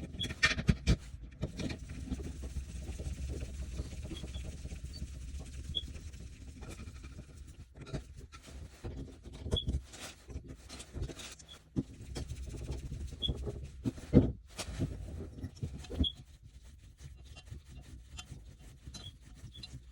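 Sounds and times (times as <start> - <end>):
hands rubbing and scraping parts: 0.0 - 19.9.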